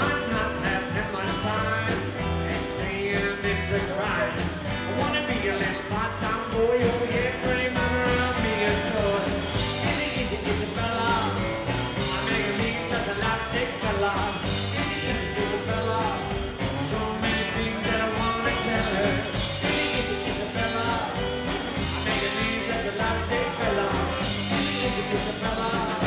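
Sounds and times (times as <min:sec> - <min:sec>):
drums: 0:00.0 - 0:26.0
man singing: 0:00.0 - 0:26.0
upright double bass: 0:00.0 - 0:26.0.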